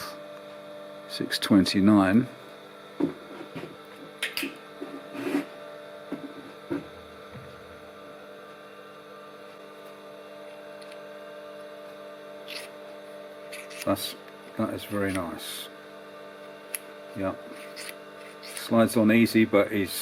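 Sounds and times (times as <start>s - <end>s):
workshop machinery humming: 0.0s - 20.0s.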